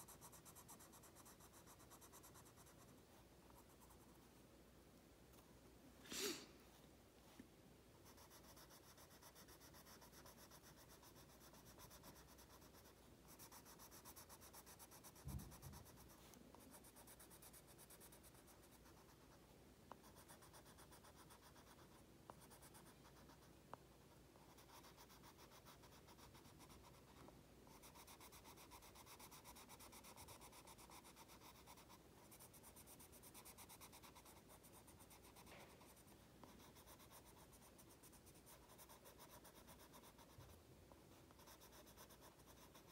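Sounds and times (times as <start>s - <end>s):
pencil scratching on card: 0.0s - 4.2s, 8.0s - 42.9s.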